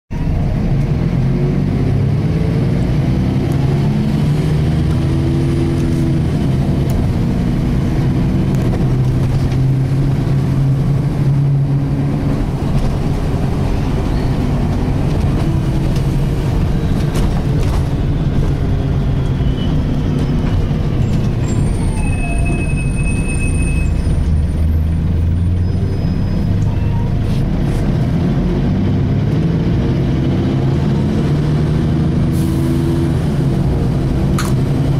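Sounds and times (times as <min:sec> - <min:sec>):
bus diesel engine running: 0:00.1 - 0:34.9.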